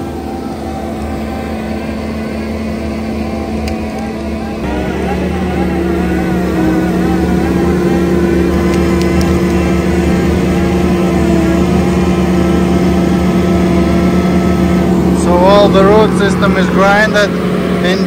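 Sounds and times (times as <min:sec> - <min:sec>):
diesel engine at high revs: 0:00.0 - 0:18.0
hydraulic grinder whine: 0:00.0 - 0:18.0.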